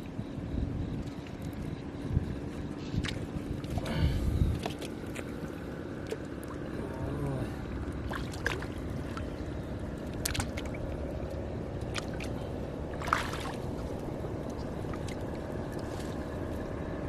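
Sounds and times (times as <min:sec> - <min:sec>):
steady low rumble: 0:00.0 - 0:17.0
water sloshing around boat: 0:00.0 - 0:17.0.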